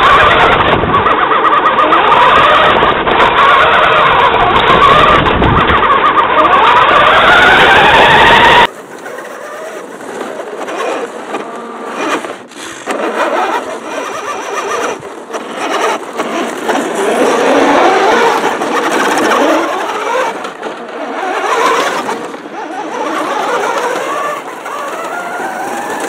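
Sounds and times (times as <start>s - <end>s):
toy truck motor whining: 0.0s - 26.0s.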